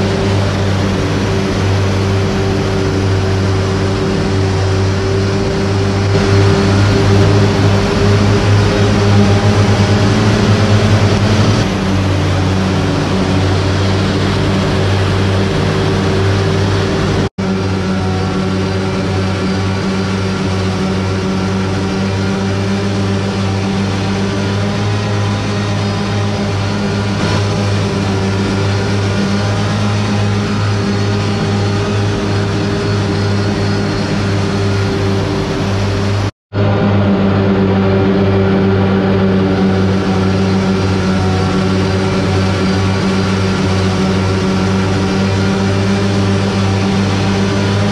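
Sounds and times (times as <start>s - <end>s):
loud machine hum: 0.0s - 47.9s
noisy mechanical wash: 0.0s - 47.9s.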